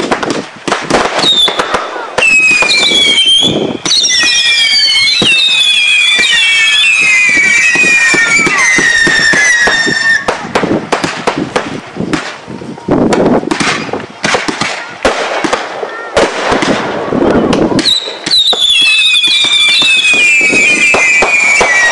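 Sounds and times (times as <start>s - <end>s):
firework pops and bangs: 0.0s - 21.9s
whistling fireworks: 0.0s - 21.9s.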